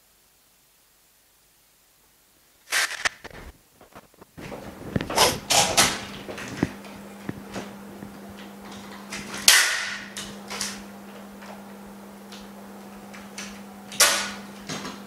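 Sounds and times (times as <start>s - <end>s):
vacuum pump humming: 2.7s - 15.0s.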